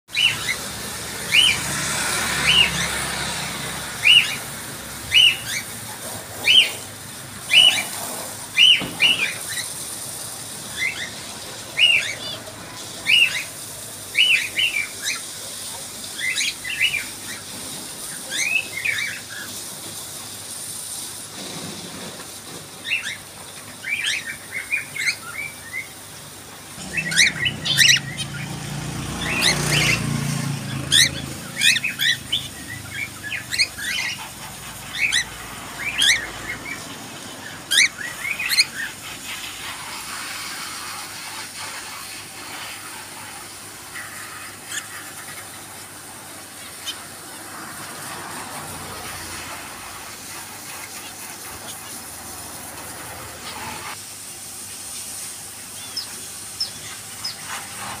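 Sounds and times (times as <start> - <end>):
pet birds chirping: 0.1 - 19.6, 22.8 - 26.0, 26.7 - 48.2, 55.6 - 58.0.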